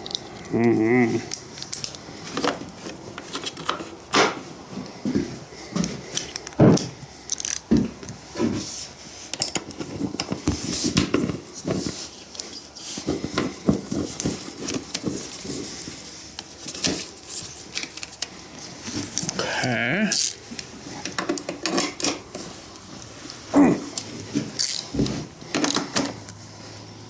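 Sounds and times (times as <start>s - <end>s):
tools and parts clicking and knocking: 0.0s - 0.5s, 1.2s - 4.4s, 5.8s - 18.3s, 20.1s - 26.4s.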